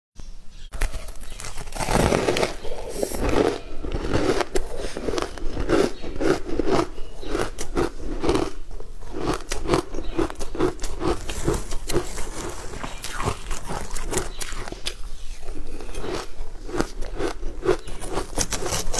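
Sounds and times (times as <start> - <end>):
sharp crackles: 0.7 - 8.5, 9.1 - 18.9
crunchy dessert chewing: 0.8 - 18.9.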